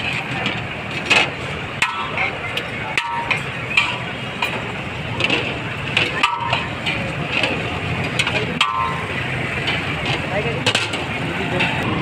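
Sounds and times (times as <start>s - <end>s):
utensils clicking and clinking: 0.0s - 11.8s
murmur of voices: 0.0s - 12.0s
traffic: 0.0s - 12.0s.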